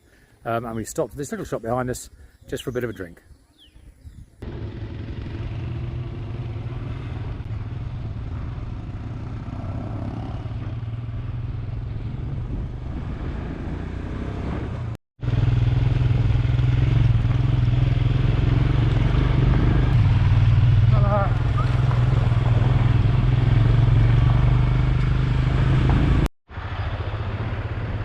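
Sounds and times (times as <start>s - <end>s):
motorcycle engine running: 4.4s - 28.0s.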